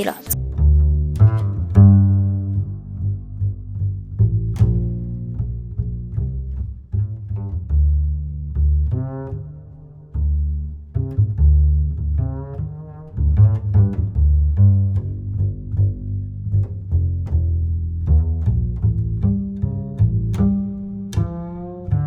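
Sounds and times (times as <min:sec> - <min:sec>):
plucked and bowed strings tune: 0:00.2 - 0:22.0.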